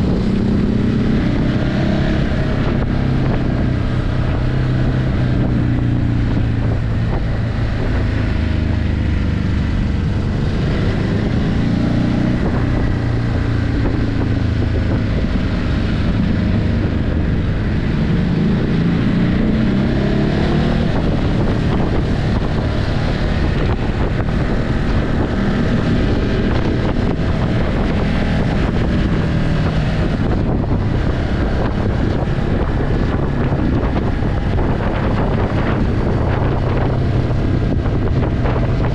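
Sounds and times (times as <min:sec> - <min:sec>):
motorcycle engine revving: 0:00.0 - 0:38.9
wind buffeting microphone: 0:00.0 - 0:38.9.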